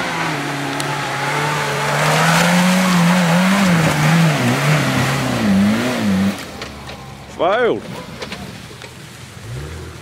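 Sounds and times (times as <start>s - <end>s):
off-road engine revving: 0.0s - 10.0s.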